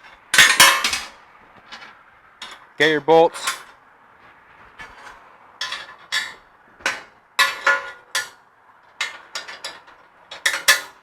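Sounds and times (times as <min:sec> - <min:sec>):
bolts and nuts clinking: 0:00.0 - 0:03.8, 0:04.8 - 0:11.0.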